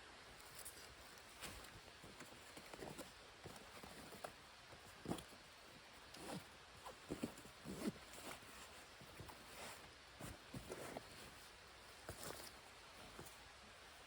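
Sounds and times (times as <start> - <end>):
rustling: 0.3 - 14.0.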